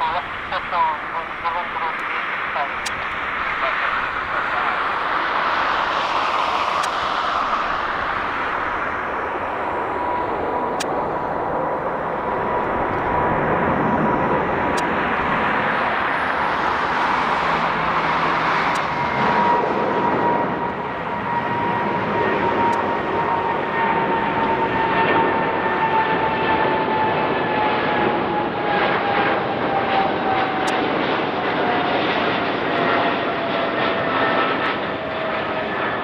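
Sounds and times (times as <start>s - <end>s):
jet engine noise: 0.0s - 36.0s.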